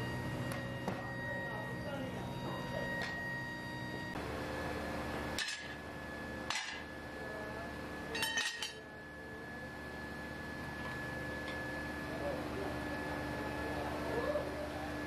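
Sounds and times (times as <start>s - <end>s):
workshop machine hum: 0.0s - 15.0s.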